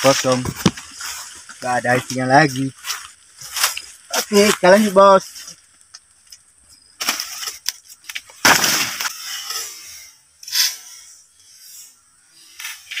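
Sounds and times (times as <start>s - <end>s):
leaves and branches rustling: 0.0s - 11.4s.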